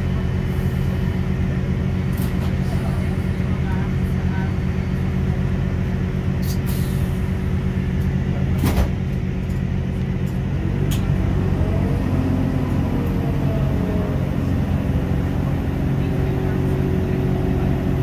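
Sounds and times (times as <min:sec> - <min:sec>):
train engine drone: 0:00.0 - 0:18.0.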